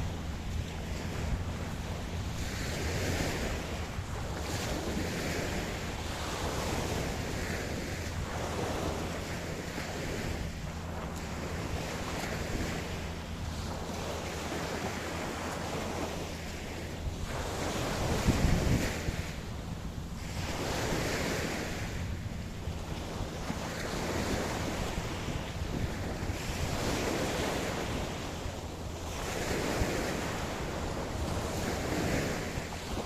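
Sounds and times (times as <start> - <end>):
ocean waves breaking on beach: 0.0 - 33.0
steady low rumble: 0.0 - 33.0.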